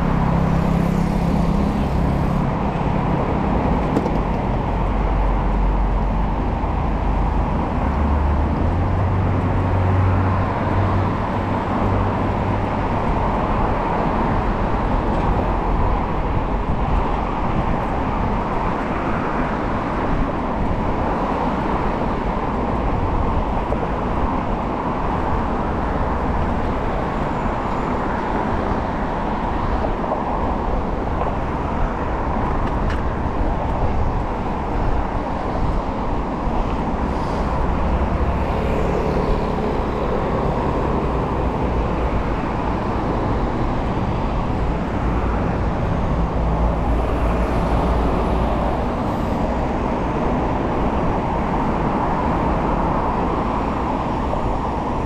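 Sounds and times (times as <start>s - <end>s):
city road traffic: 0.0s - 55.0s
wind rumbling on microphone: 0.0s - 55.0s.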